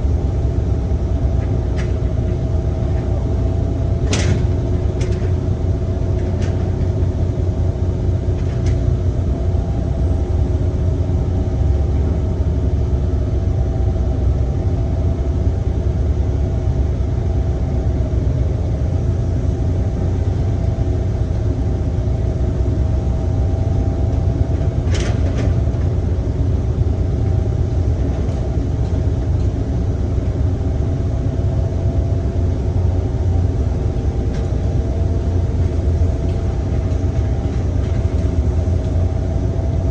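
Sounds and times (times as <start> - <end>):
diesel machinery rumbling drone: 0.0 - 39.9.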